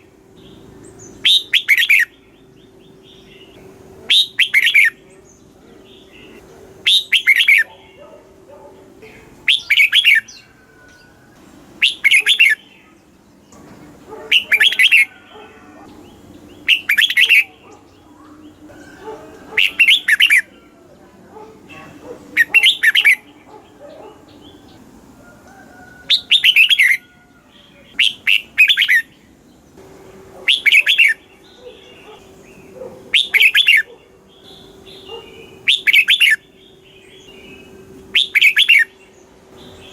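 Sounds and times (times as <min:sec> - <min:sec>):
bulbul singing warbling song: 0:00.0 - 0:39.9.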